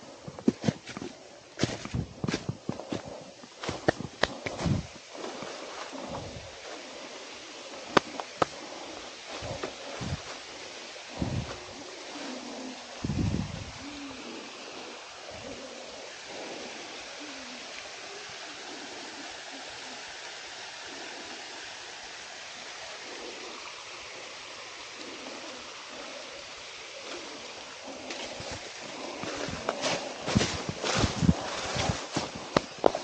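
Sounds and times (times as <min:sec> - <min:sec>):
rushing water: 0:00.0 - 0:33.0.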